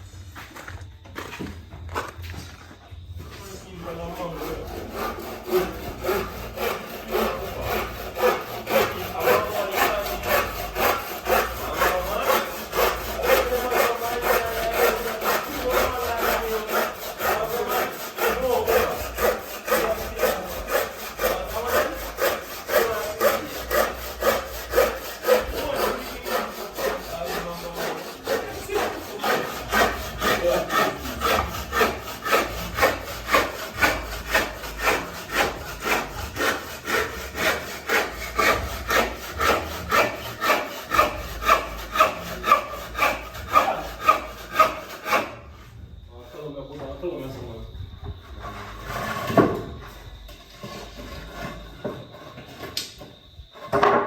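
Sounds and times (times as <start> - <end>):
hand saw cutting wood: 3.8 - 45.7, 48.4 - 52.3.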